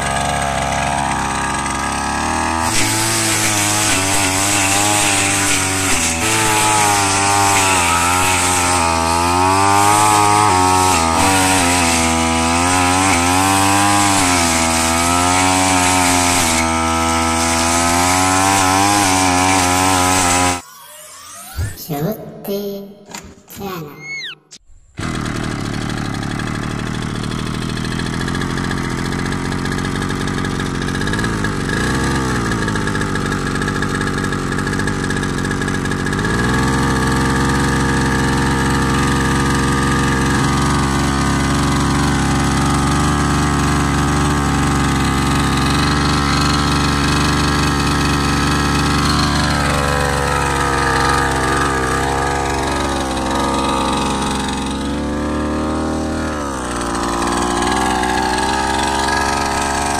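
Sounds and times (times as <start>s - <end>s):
brush cutter engine: 0.0s - 21.3s, 25.0s - 59.9s.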